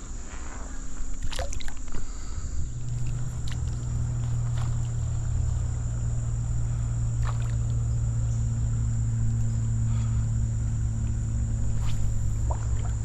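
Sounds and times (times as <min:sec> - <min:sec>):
insects droning: 0:00.0 - 0:13.0
low hum: 0:00.0 - 0:13.0.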